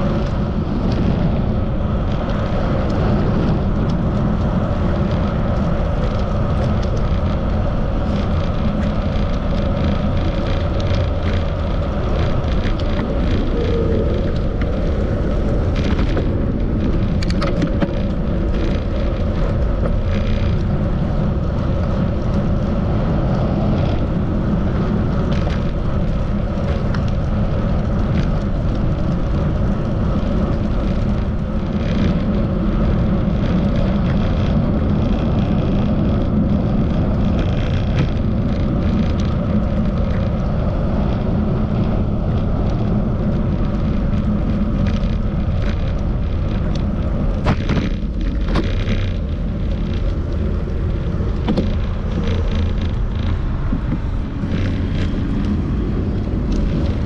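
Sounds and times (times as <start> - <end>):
bicycle riding on street: 0.0 - 57.0
wind rumble on microphone: 0.0 - 57.0.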